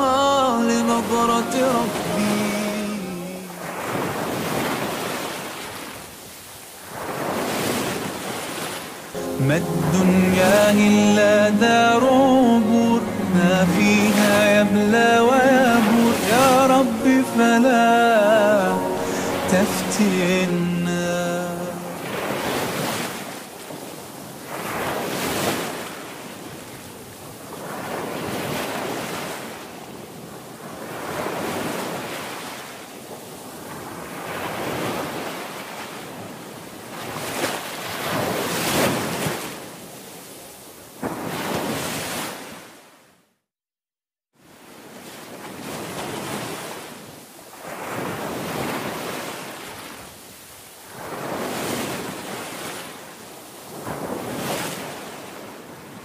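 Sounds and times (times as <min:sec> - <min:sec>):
ocean waves washing in: 0:00.0 - 0:40.4, 0:44.5 - 0:56.0.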